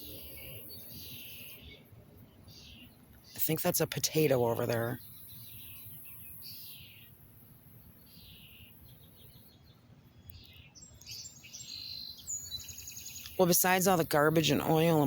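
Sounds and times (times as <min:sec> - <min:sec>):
wild birds chirping: 0:00.0 - 0:15.0.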